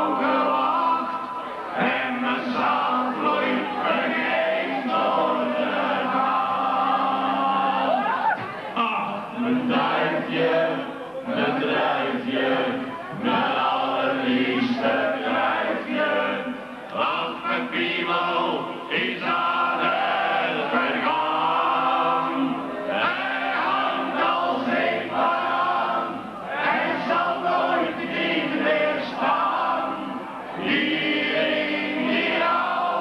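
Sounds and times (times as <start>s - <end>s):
men singing in chorus: 0.0s - 7.9s, 8.8s - 33.0s.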